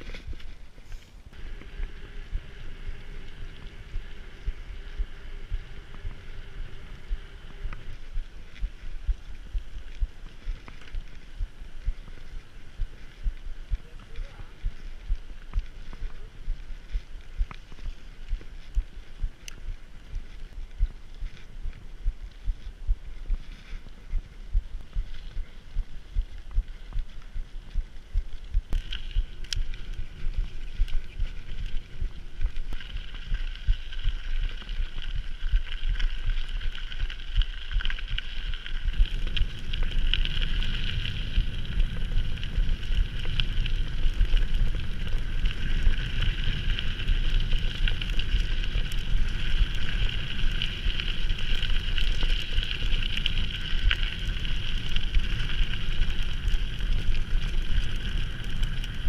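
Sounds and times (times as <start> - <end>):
bike tyres humming: 0.0 - 59.0
wind buffeting microphone: 1.3 - 59.0.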